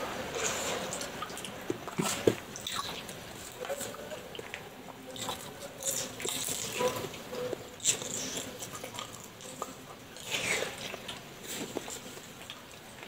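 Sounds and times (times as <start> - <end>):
wet chewing: 0.2 - 13.0.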